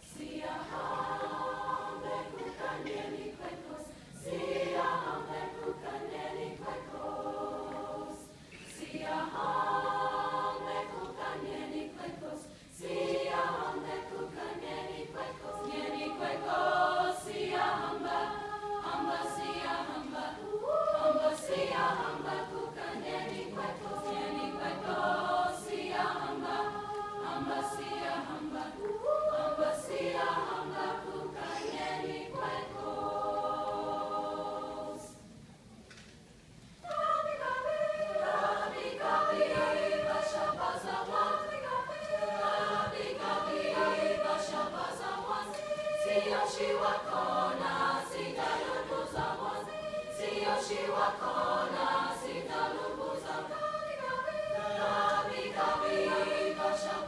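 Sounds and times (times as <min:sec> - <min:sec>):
choir singing in parts: 0:00.0 - 0:35.4, 0:36.7 - 0:57.0.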